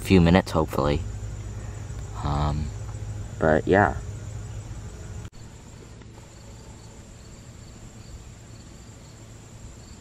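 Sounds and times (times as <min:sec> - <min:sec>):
crickets droning: 0:00.0 - 0:10.0
low steady rumble: 0:00.0 - 0:10.0.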